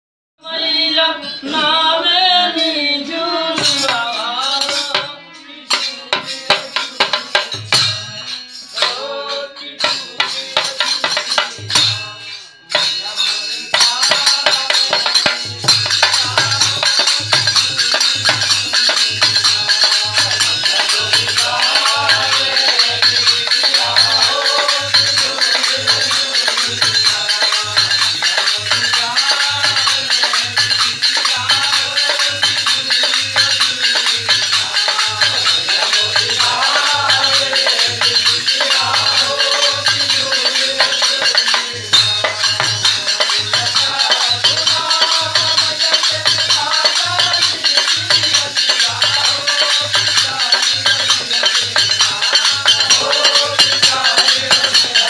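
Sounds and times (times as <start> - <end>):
jingling hand percussion: 0.4 - 55.0
voices singing: 0.4 - 55.0.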